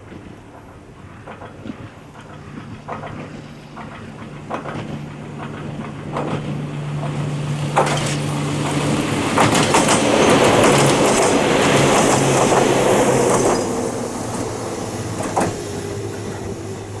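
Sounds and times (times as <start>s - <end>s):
train wheel and rail rumble: 0.0s - 17.0s
wheels clicking over rail joints: 0.0s - 17.0s.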